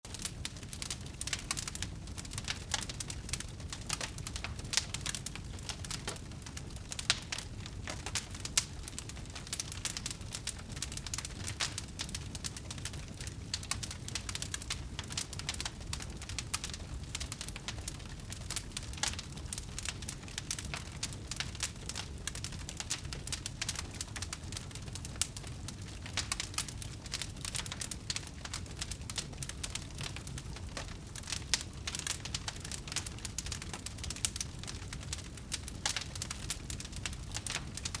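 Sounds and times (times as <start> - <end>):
wood fire crackling and popping: 0.1 - 38.0.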